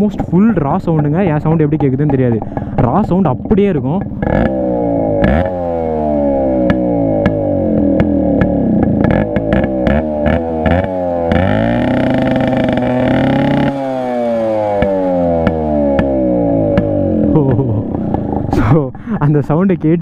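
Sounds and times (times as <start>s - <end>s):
two-stroke engine revving: 0.0s - 18.9s
exhaust popping: 0.0s - 20.0s.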